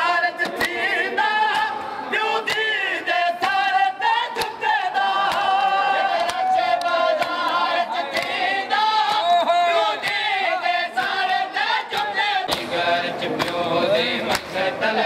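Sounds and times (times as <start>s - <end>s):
men chanting in chorus: 0.0s - 15.0s.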